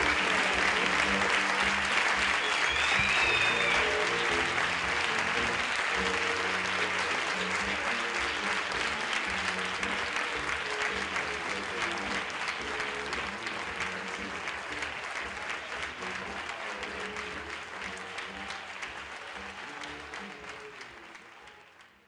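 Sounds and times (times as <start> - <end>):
soft music: 0.0 - 21.6
audience applauding: 0.0 - 22.0.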